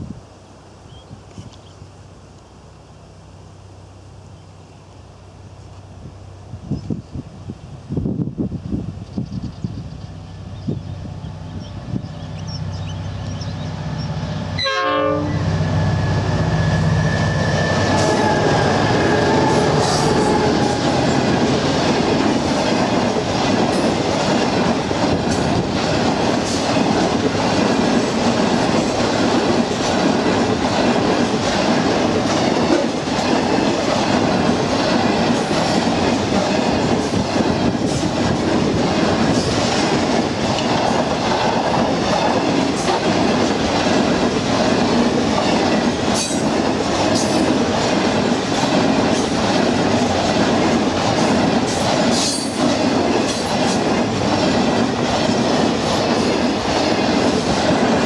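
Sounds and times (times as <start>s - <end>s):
train wheels rumbling and rattling: 6.4s - 58.0s.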